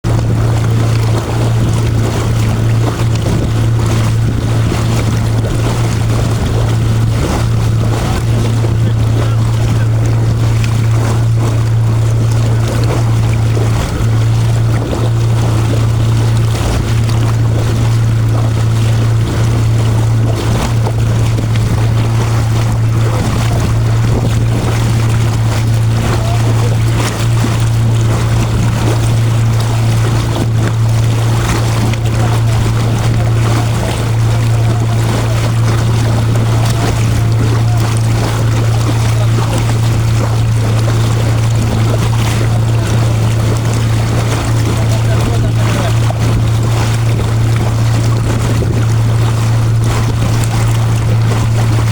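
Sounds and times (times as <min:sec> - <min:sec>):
boat motor humming: 0:00.0 - 0:51.9
water wash: 0:00.0 - 0:51.9
wind: 0:00.0 - 0:51.9.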